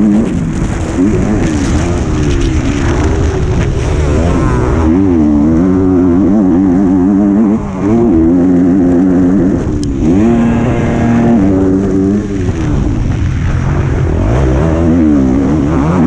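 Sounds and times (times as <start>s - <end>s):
motocross bike revving: 0.0s - 16.0s.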